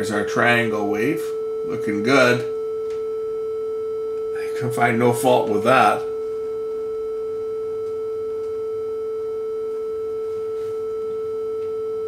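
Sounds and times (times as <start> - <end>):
steady mid-pitched tone: 0.0 - 11.6.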